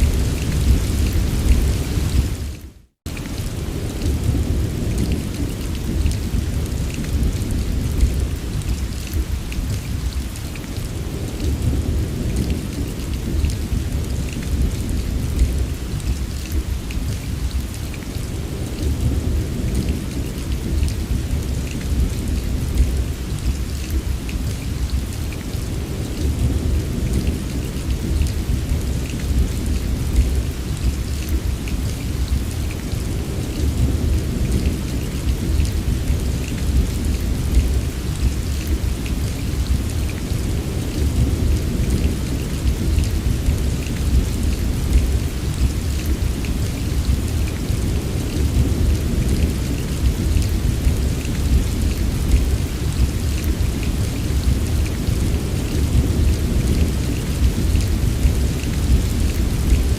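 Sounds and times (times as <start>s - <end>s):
rumble of thunder: 0.0s - 2.4s, 3.2s - 59.9s
heavy rain falling: 0.0s - 59.9s.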